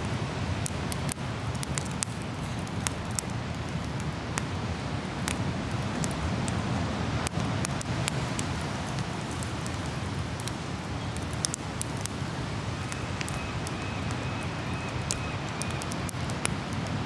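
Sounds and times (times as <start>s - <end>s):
campfire crackling and popping: 0.0s - 17.0s
ocean surf rumble: 0.0s - 17.0s.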